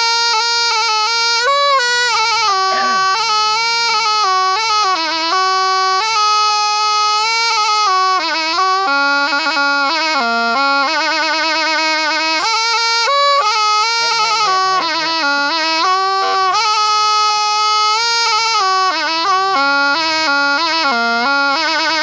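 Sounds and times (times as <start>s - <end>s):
reed oboe melody: 0.0s - 22.0s.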